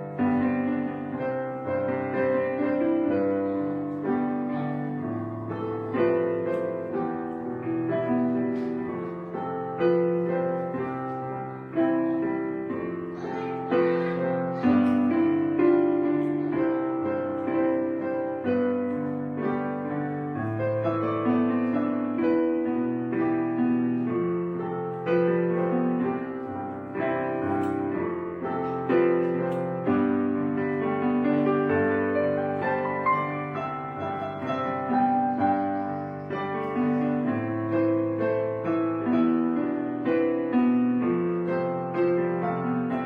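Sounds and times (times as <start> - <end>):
piano playing slow chords: 0.0 - 43.0.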